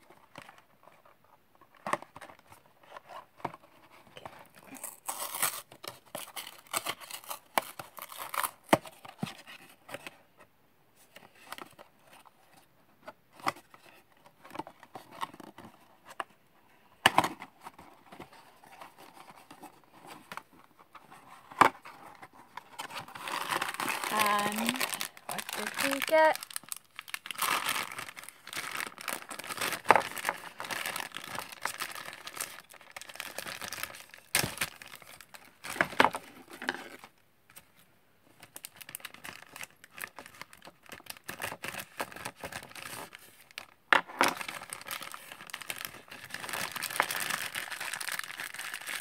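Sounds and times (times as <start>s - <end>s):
cardboard clicks and rustles: 0.1s - 16.4s, 17.0s - 48.8s.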